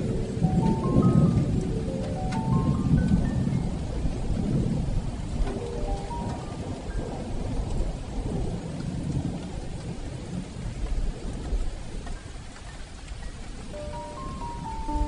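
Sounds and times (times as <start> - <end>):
heavy rain on a metal roof: 0.0 - 15.0
thunder rumbling: 0.0 - 15.0.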